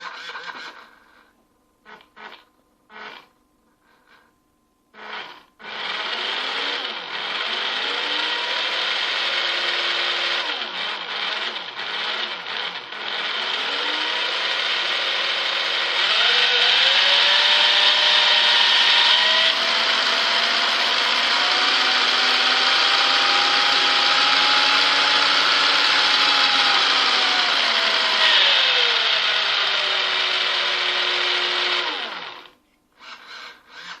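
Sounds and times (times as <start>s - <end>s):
toy car electric motor whining: 5.0s - 34.0s.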